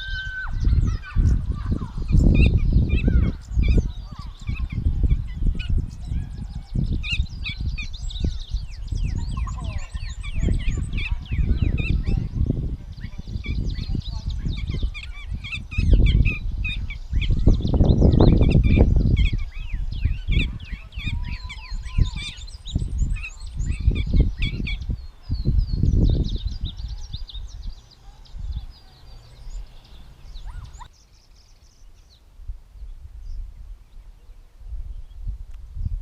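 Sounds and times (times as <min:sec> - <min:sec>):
catbird singing: 0:00.0 - 0:32.2.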